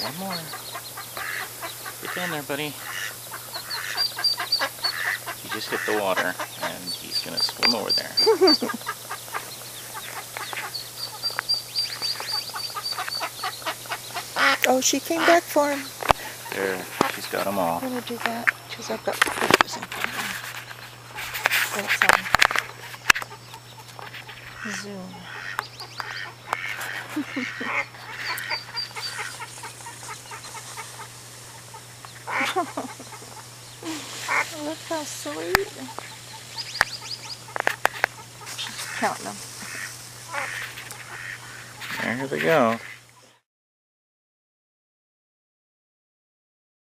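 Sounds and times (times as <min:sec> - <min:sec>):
duck calling: 0:00.0 - 0:43.4
ducklings peeping: 0:00.0 - 0:43.4
steady low hum: 0:00.0 - 0:43.4.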